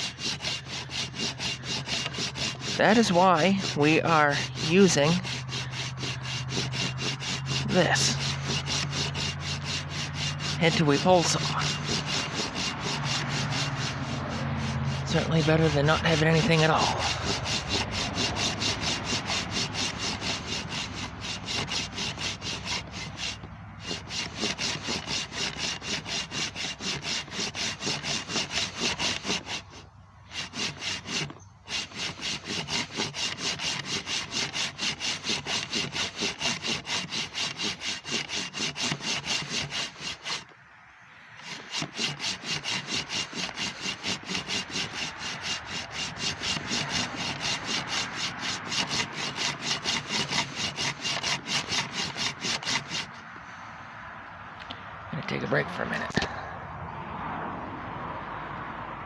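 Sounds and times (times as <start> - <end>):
hand saw cutting wood: 0.0 - 40.6, 41.3 - 53.4.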